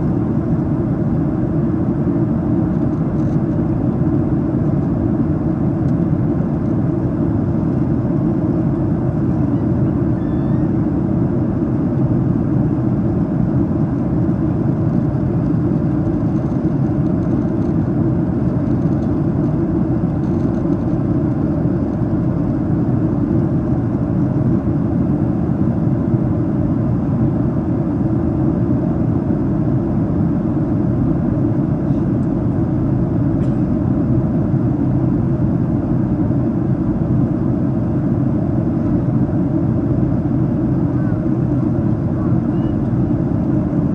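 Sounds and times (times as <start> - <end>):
airflow and engines rushing: 0.0 - 43.9
airliner cabin noise in flight: 0.0 - 43.9.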